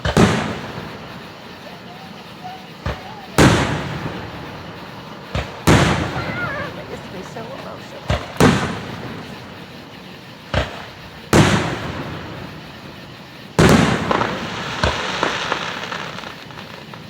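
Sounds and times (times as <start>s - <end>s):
firework crackles: 0.0s - 17.0s
firework shells bursting: 0.0s - 17.0s.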